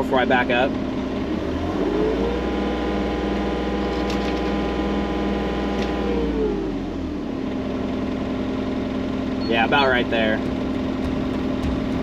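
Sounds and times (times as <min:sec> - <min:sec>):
skid loader engine running: 0:00.2 - 0:12.0.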